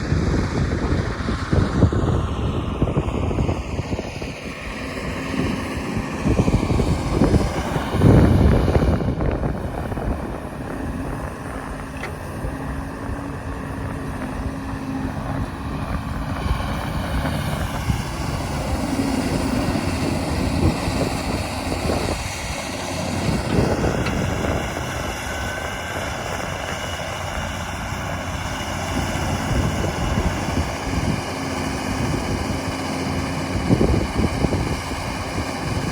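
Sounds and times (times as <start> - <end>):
excavator diesel engine droning: 0.0 - 35.9.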